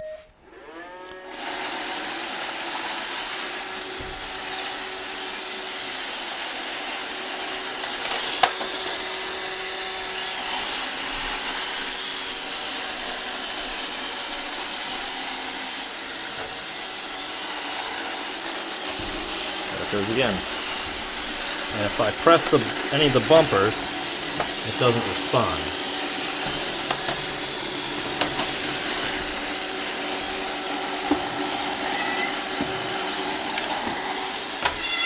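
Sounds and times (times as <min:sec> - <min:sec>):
robot vacuum motors whirring: 0:00.4 - 0:21.7, 0:22.7 - 0:24.7, 0:25.6 - 0:34.9.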